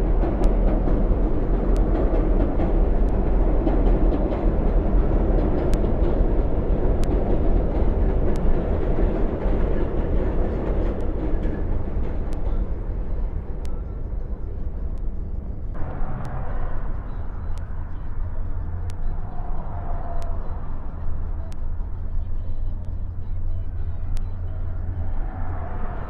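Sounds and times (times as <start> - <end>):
faint clicks of wheels on track: 0.0 - 26.0
subway train rumbling on bridge: 0.0 - 26.0.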